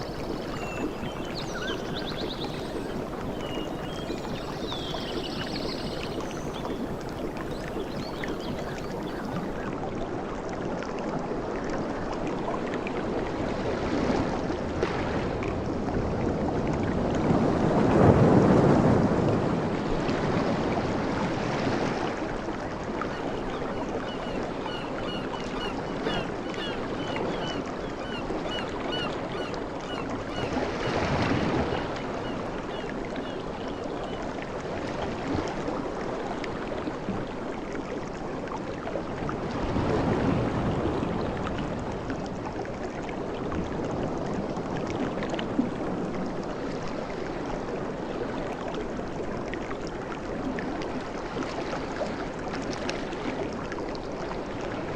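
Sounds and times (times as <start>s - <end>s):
sea waves breaking on beach: 0.0s - 10.2s, 11.3s - 33.6s, 34.3s - 54.9s.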